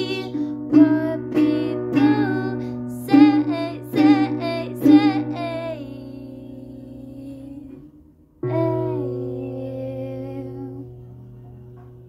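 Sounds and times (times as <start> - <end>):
woman singing: 0.0 - 11.3.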